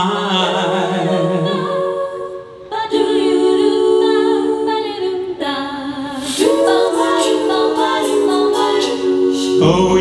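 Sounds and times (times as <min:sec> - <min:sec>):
a cappella group singing harmony: 0:00.0 - 0:10.0.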